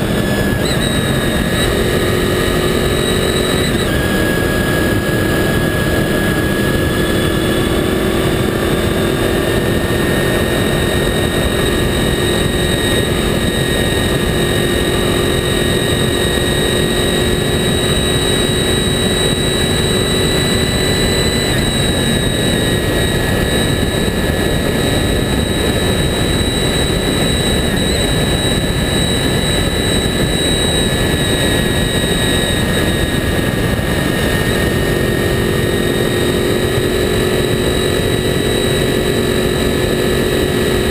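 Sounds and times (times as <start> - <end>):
motorcycle engine running: 0.0 - 40.9
steady engine whine: 0.0 - 40.9
wind and road rush: 0.0 - 40.9.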